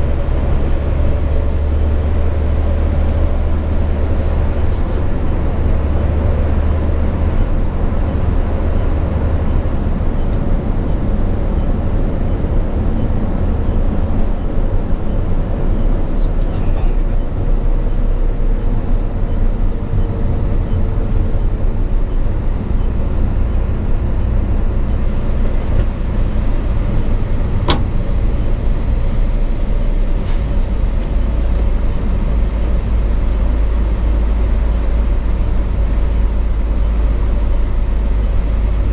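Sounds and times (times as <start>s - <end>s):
road rumble: 0.0s - 38.9s
truck engine drone: 0.0s - 38.9s.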